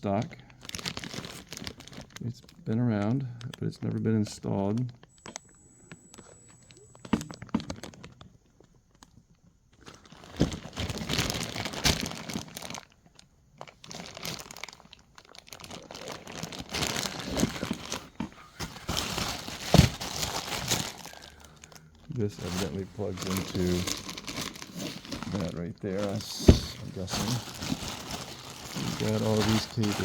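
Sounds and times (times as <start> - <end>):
packaging crinkling and rustling: 0.0 - 30.0.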